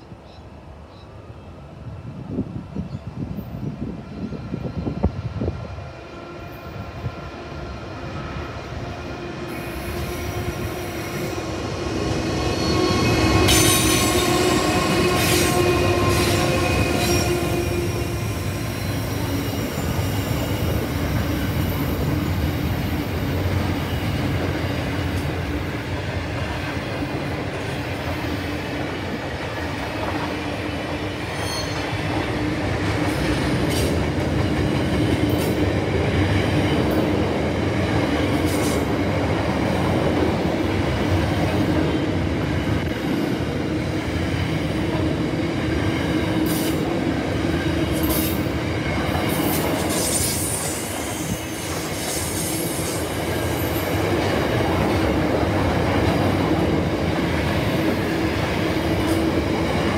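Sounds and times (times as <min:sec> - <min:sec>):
diesel locomotive passing: 0:00.0 - 0:59.9
wheels rumbling on rail: 0:00.3 - 0:59.9.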